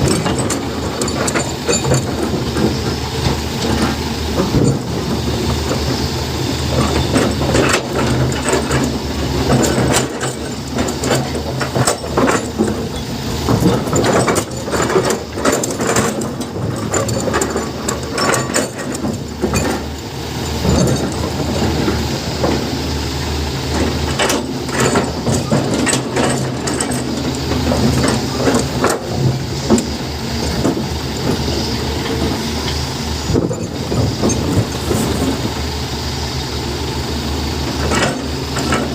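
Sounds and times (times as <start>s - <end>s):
machinery knocks and clatter: 0.0s - 35.8s, 37.6s - 38.9s
heavy diesel engine running: 0.0s - 38.9s.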